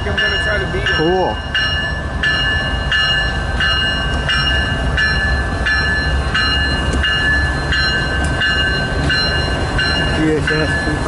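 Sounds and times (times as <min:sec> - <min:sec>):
freight train rumbling: 0:00.0 - 0:11.0
railroad crossing bell ringing: 0:00.0 - 0:11.0.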